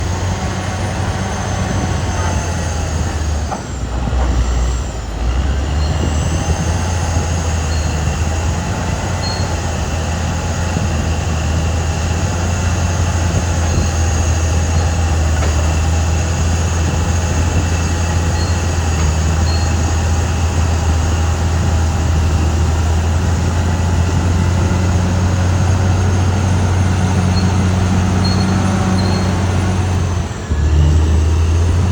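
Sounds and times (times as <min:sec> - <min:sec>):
bulldozer diesel engine running: 0:00.0 - 0:31.9.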